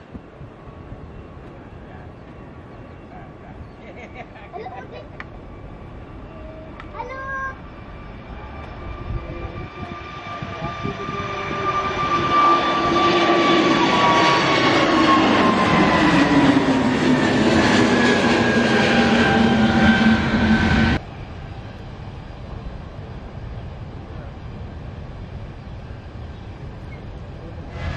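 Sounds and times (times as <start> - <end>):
jet airliner taking off: 0.0 - 27.9
jet engine whine: 0.0 - 27.9.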